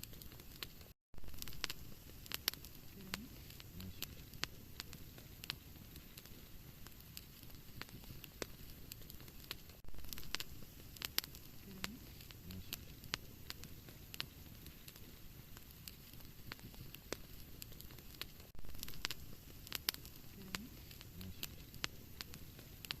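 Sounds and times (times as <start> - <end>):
fire crackling and popping: 0.0 - 23.0
low rustle of flames: 0.0 - 23.0.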